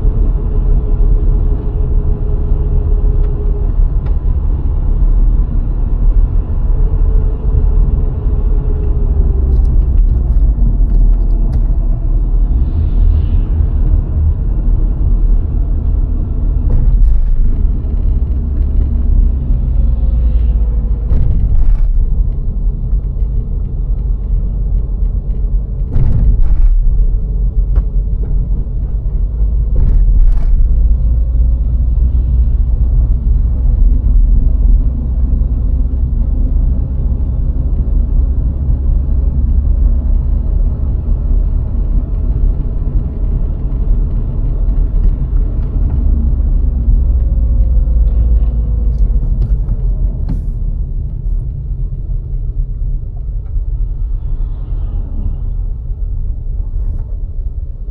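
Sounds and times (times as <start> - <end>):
car tyres and engine rumbling: 0.0 - 57.9.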